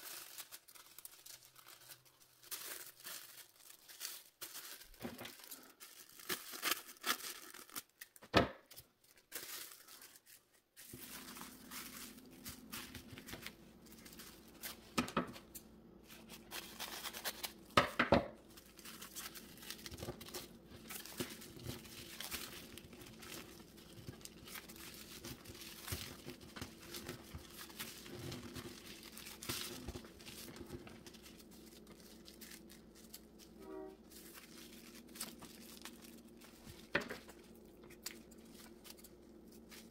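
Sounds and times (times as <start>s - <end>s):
tissue paper rustling: 0.0s - 8.0s, 8.9s - 17.7s, 18.4s - 39.9s.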